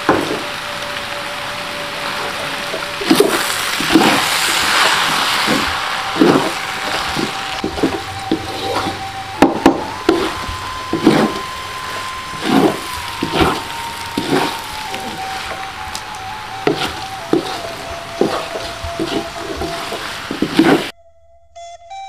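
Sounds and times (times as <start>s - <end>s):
frying sizzle: 0.0s - 20.9s
wooden spatula scraping wok: 2.0s - 20.9s.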